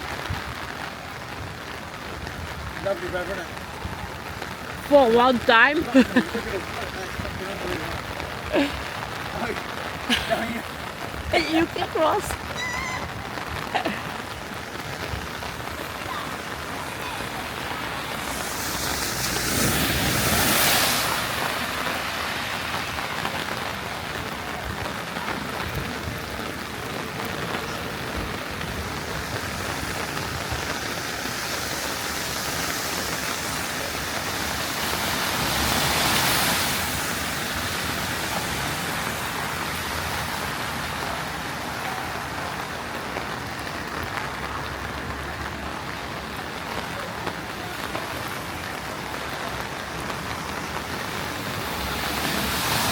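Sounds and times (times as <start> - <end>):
heavy rain on pavement: 0.0 - 52.9.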